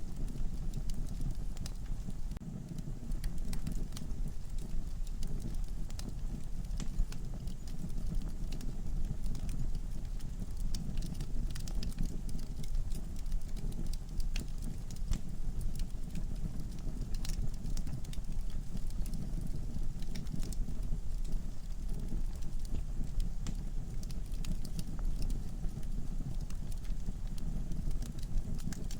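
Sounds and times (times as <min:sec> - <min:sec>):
logs crackling and popping: 0:00.0 - 0:28.9
low rumble of flames: 0:00.0 - 0:28.9.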